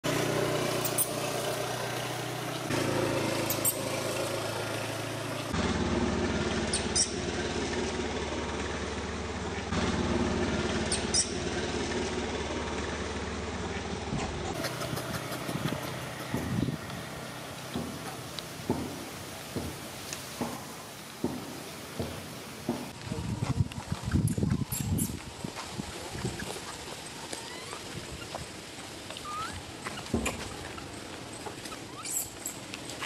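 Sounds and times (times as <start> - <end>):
engine hum: 0.0 - 33.0.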